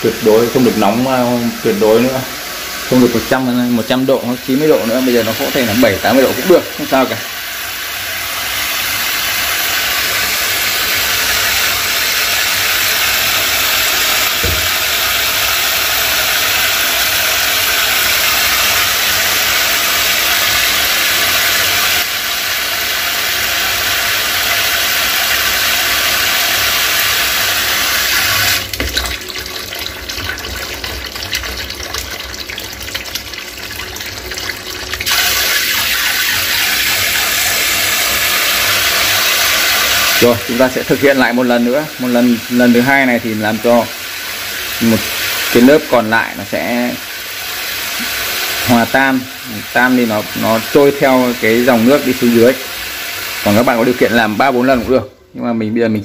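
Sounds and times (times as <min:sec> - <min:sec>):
water pouring into a steel sink: 0:00.0 - 0:55.0.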